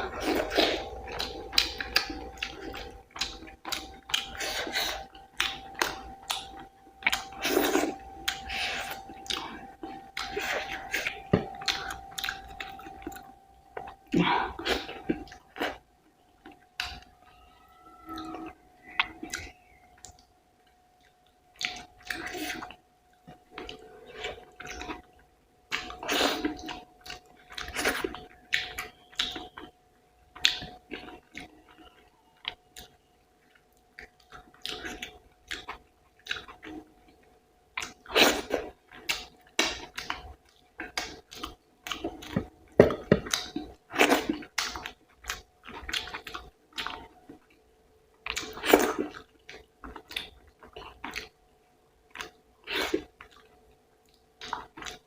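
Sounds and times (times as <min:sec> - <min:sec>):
chewing and wet mouth sounds: 0:00.0 - 0:55.0
faint steady hum: 0:00.0 - 0:55.0.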